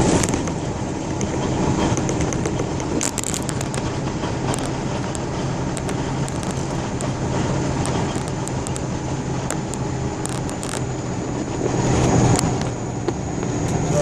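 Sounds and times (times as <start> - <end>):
vehicle engine running: 0.0 - 14.0
sharp clicks and knocks: 0.1 - 13.8.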